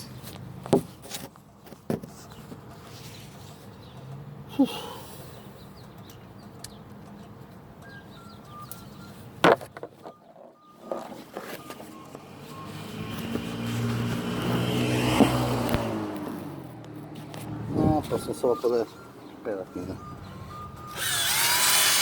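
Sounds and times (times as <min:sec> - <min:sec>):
vehicle engine: 0:00.0 - 0:22.0.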